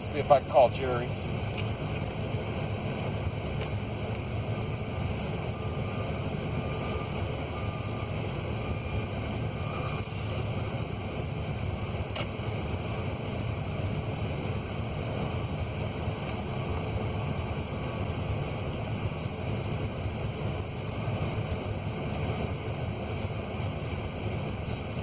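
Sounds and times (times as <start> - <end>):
truck engine rumble from inside cab: 0.0 - 25.0.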